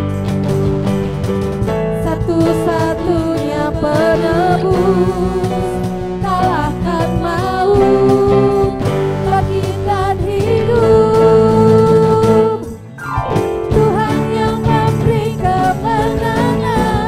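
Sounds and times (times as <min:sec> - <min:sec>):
group singing over a band: 0:02.2 - 0:12.8, 0:13.8 - 0:17.0.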